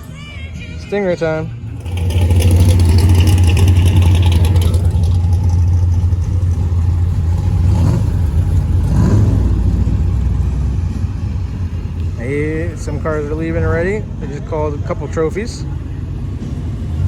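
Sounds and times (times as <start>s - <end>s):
car engine running loudly: 1.6s - 17.0s.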